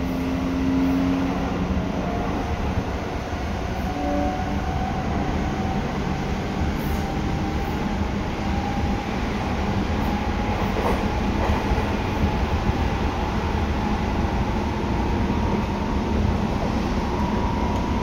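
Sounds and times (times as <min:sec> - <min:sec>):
train wheels and motors rumbling: 0:00.0 - 0:18.0.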